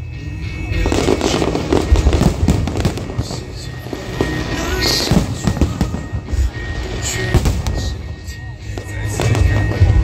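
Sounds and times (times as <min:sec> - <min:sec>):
music playing: 0:00.0 - 0:10.0
fireworks bursting: 0:00.8 - 0:10.0.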